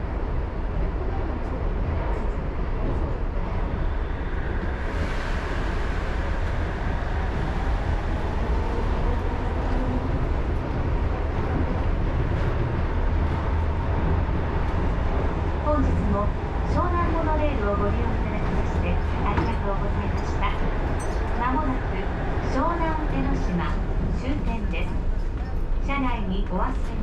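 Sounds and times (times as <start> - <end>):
monorail car rumbling: 0.0 - 27.0.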